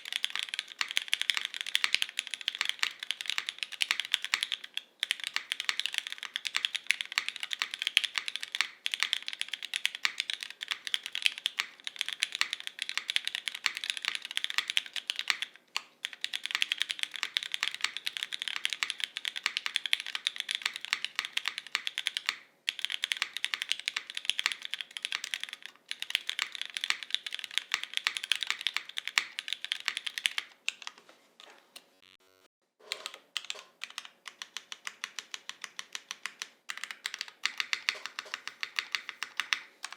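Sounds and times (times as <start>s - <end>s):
mechanical keyboard typing: 0.0s - 31.0s, 32.8s - 39.9s.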